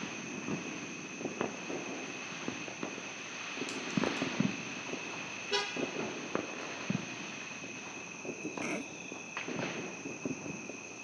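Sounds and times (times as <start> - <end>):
distant fireworks popping: 0.0 - 11.0.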